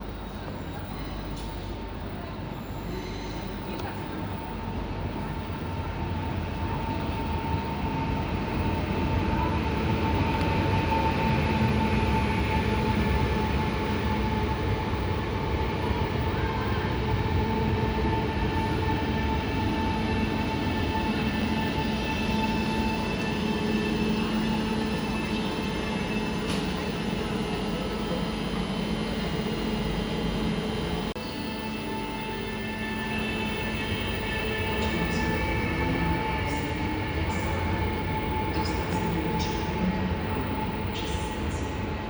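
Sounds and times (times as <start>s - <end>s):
train rumbling on rails: 0.0s - 42.0s
steady whine: 6.3s - 42.0s.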